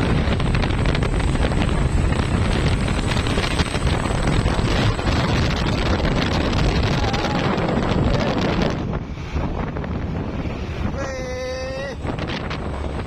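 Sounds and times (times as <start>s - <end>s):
trucks passing: 0.0s - 13.0s
wind buffeting microphone: 0.0s - 13.0s.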